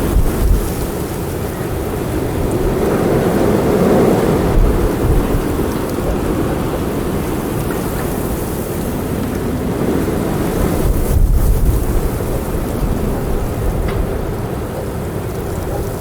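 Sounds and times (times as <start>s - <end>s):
strong wind gusting: 0.0s - 16.0s
wind buffeting microphone: 0.0s - 16.0s.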